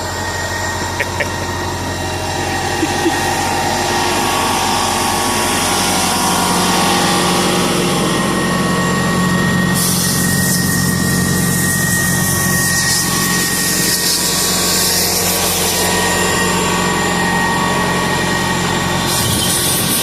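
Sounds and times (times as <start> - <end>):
motor running with high whine: 0.0 - 20.0.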